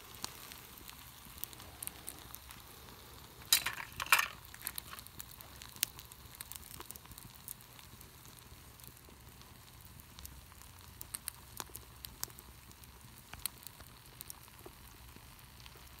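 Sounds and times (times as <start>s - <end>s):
campfire crackling and popping: 0.0s - 16.0s
soft hiss: 0.0s - 16.0s.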